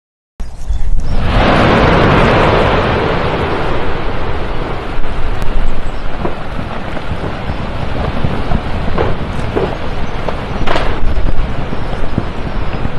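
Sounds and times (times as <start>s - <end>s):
wind buffeting microphone: 0.4s - 12.9s
volcanic eruption rushing roar: 0.9s - 12.9s.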